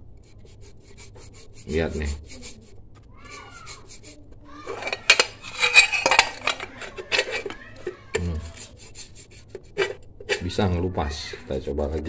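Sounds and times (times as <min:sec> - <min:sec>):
toothbrush scrubbing metal: 0:00.0 - 0:12.0.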